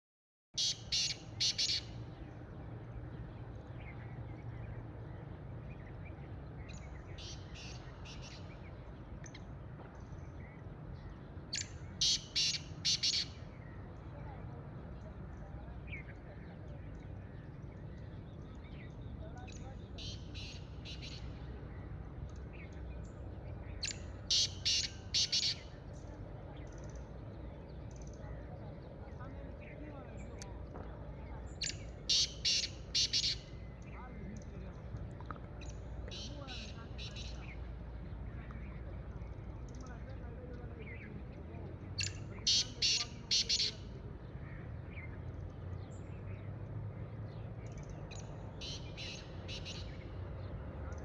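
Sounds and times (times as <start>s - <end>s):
low outdoor background noise: 0.6s - 51.0s
small birds chirping: 0.6s - 51.0s.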